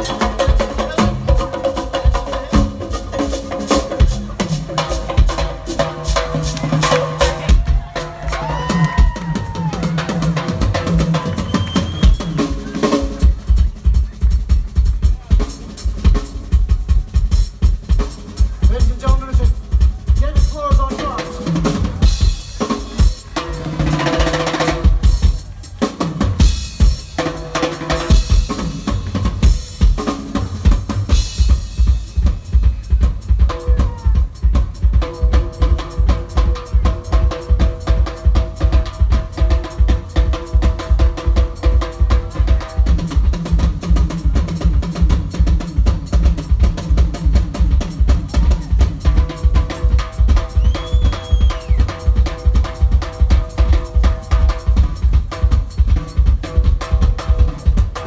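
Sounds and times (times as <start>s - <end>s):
congas and timbales: 0.0s - 58.0s
drum kit driving beat: 0.0s - 58.0s
latin rock band playing: 0.0s - 58.0s.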